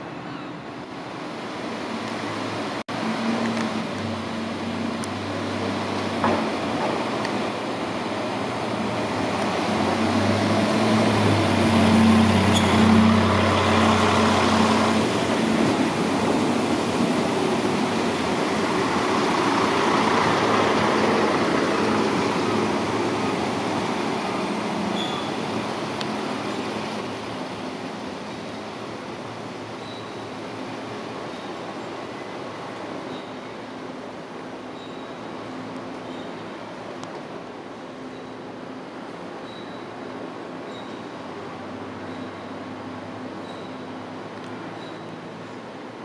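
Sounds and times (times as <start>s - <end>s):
train running noise: 0.0s - 41.3s
diesel railcar engines droning: 0.0s - 46.0s.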